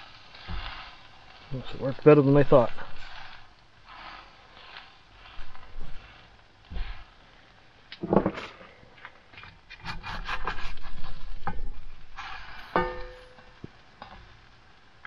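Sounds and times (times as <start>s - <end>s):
utensils scraping a skillet: 0.0s - 7.2s, 9.5s - 14.4s.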